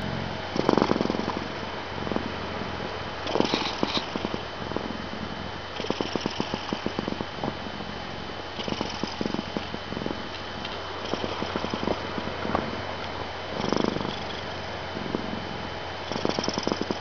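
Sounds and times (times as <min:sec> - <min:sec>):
cat purring and snoring: 0:00.0 - 0:17.0.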